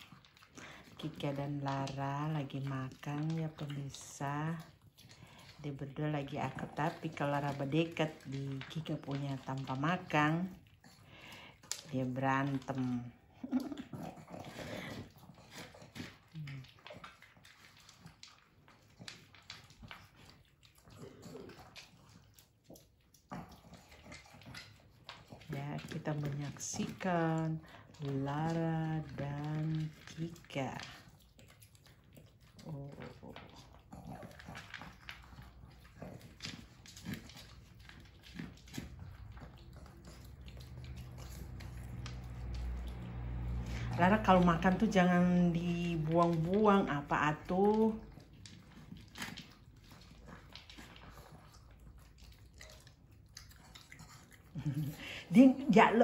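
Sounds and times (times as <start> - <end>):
dogs crunching dry kibble: 0.0 - 56.0.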